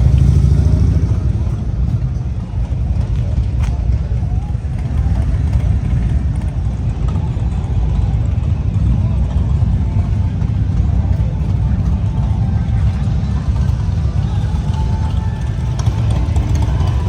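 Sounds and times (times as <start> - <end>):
faint voices: 0.0 - 17.0
motorcycle engines running: 0.0 - 17.0.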